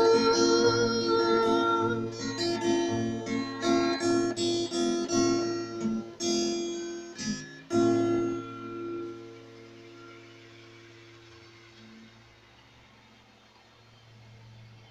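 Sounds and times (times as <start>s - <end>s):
acoustic guitar playing: 0.0s - 12.5s.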